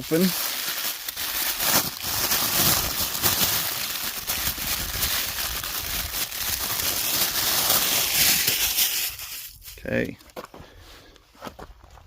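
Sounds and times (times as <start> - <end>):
toy packaging crinkling: 0.0 - 10.0.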